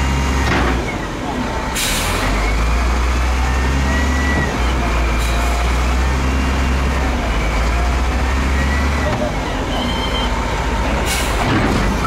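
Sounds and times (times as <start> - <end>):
diesel machinery engines droning: 0.0 - 12.0.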